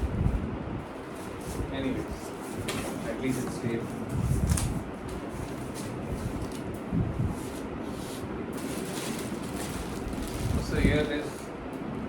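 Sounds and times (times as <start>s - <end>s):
cardboard packaging rustling: 1.0s - 11.5s.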